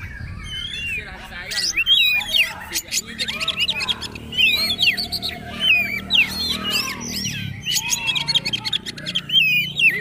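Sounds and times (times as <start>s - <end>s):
bird singing whistled notes: 0.0s - 10.0s.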